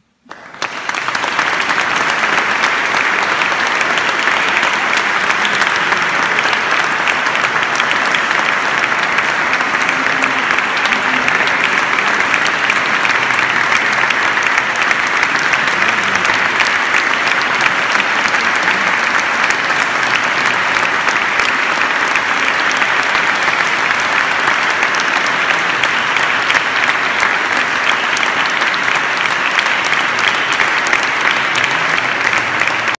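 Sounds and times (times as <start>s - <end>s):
audience applause: 0.1s - 33.0s.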